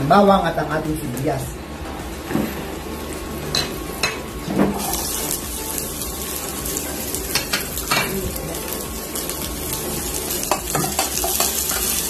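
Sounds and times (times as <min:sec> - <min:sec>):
garlic sizzling in hot oil: 0:02.1 - 0:12.0.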